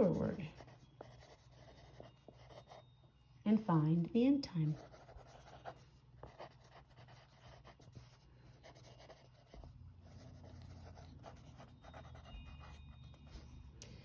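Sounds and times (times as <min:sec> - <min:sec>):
pen scratching on paper: 0:00.0 - 0:02.8, 0:04.7 - 0:13.4.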